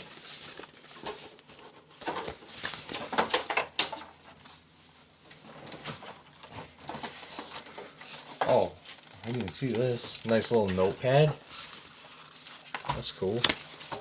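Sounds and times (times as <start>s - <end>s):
paper and plastic rustling: 0.0s - 14.0s.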